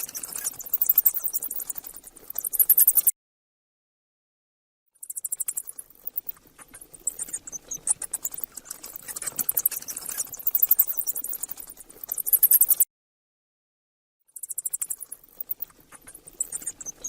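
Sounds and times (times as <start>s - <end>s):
mouse squeaking and chittering: 0.0s - 3.1s, 5.0s - 12.9s, 14.3s - 17.0s.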